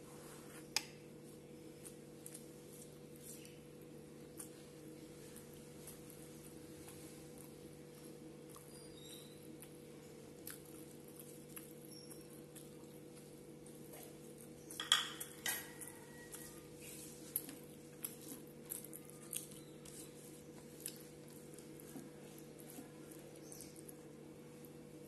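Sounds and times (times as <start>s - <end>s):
steady low hum: 0.0s - 25.0s
fingers mixing rice and curry: 0.8s - 25.0s.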